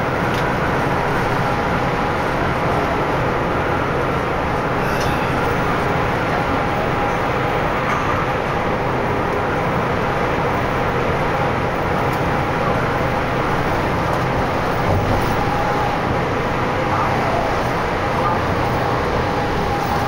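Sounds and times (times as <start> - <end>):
road and engine noise: 0.0 - 20.0.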